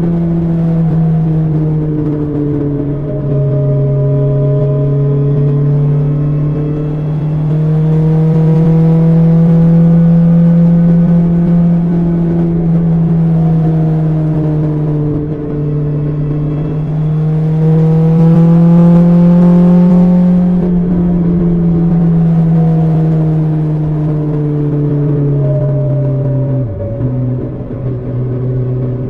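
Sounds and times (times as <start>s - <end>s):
motorcycle engine cruising: 0.0s - 29.0s.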